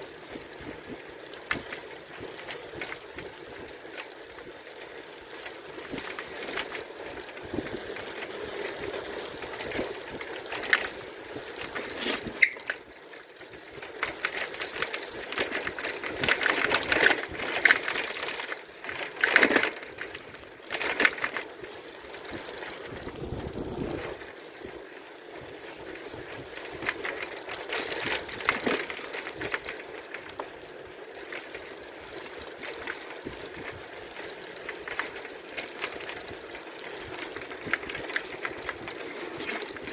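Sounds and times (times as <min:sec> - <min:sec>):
bicycle rattles and clicks: 0:00.0 - 0:39.9
bicycle rolling: 0:00.0 - 0:39.9.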